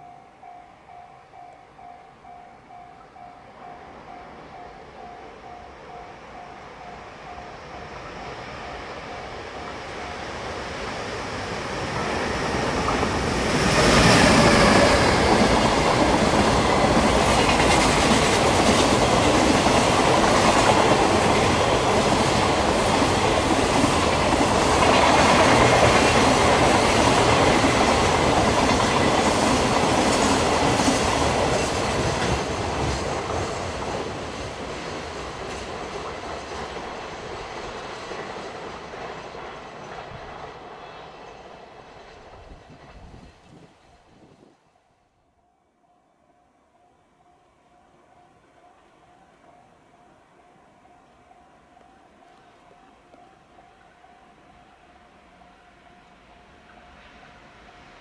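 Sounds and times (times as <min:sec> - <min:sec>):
electric locomotive passing: 0:00.0 - 0:58.0.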